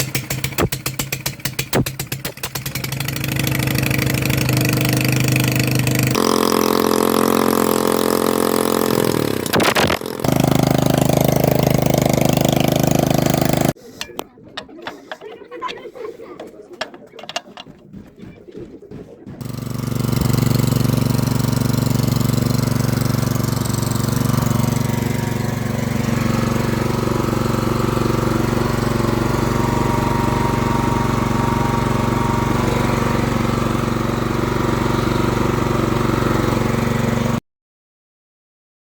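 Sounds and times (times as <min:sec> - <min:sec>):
water pump engine running: 0:00.0 - 0:15.3, 0:15.9 - 0:37.4.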